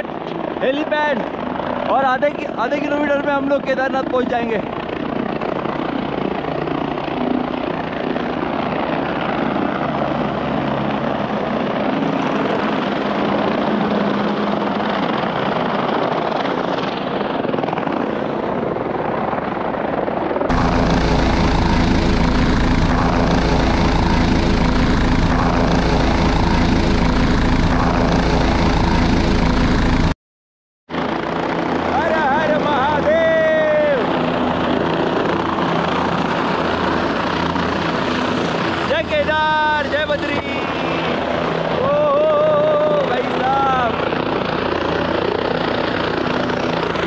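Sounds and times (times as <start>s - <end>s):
helicopter turbine and rotor drone: 0.0s - 30.2s, 30.9s - 47.0s.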